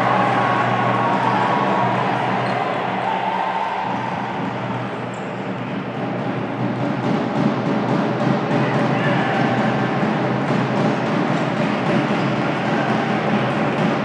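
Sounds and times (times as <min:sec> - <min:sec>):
echoing sports hall noise: 0:00.0 - 0:14.0.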